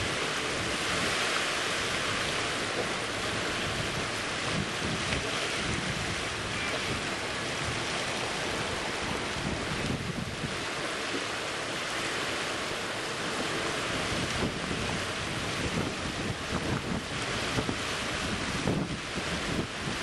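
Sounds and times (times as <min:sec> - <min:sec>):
wind buffeting microphone: 0:00.0 - 0:12.3, 0:13.2 - 0:20.0
waves washing: 0:00.0 - 0:20.0.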